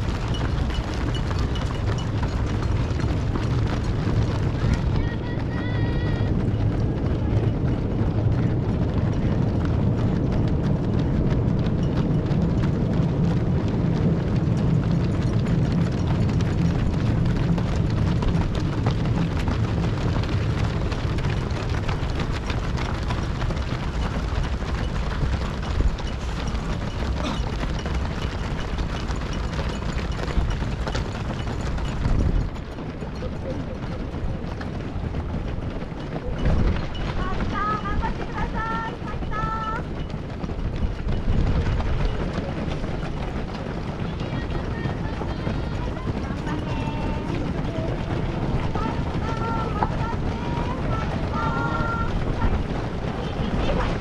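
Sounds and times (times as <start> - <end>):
runners' footsteps on road: 0.0 - 54.0
steady low rumble: 0.0 - 54.0.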